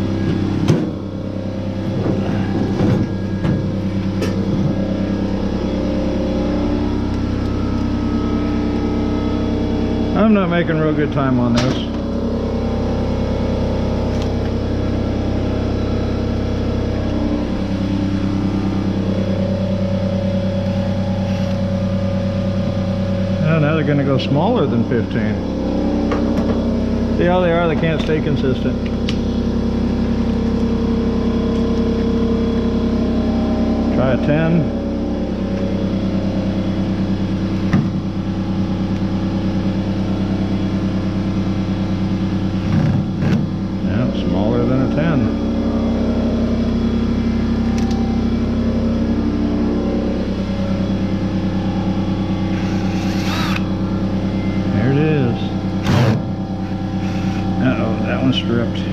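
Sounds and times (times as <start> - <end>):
motor humming: 0.0 - 58.9.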